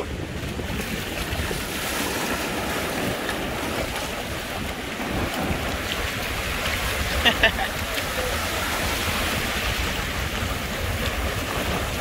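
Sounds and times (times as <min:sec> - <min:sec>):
surf washing over sandy beach: 0:00.0 - 0:12.0
wind buffeting microphone: 0:00.0 - 0:12.0.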